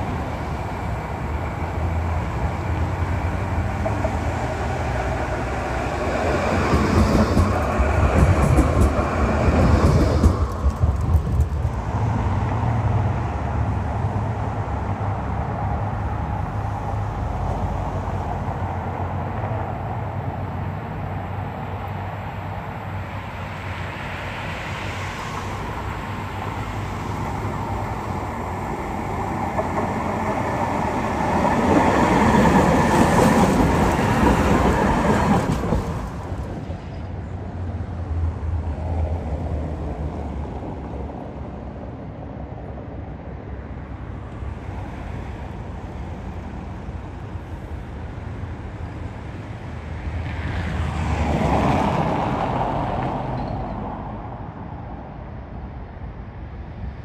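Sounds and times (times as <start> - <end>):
tram running on rails: 0.0 - 57.0.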